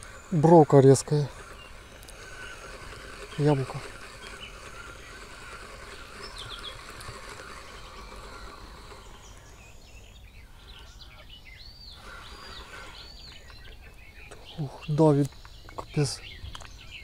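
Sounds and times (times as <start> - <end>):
faint outdoor hiss: 0.0 - 17.0
small birds chirping: 0.0 - 17.0.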